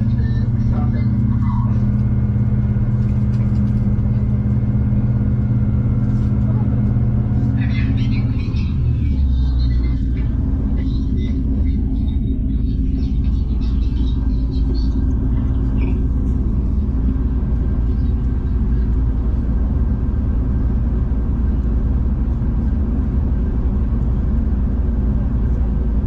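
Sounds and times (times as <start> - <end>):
train rumble from inside carriage: 0.0 - 26.0.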